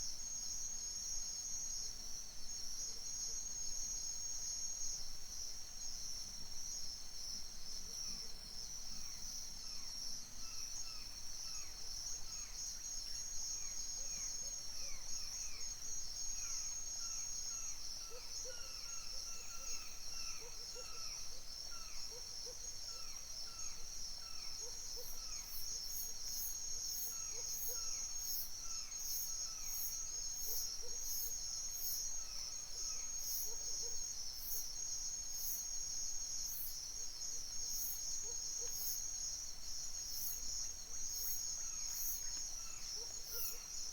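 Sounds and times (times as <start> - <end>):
crickets and insects chorus: 0.0 - 43.9.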